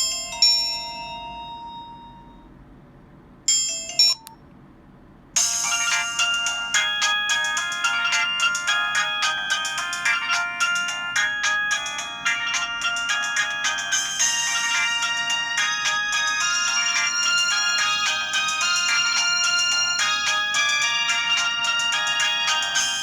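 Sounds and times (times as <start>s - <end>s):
polyphonic ringtone: 0.0s - 2.5s, 5.4s - 23.0s.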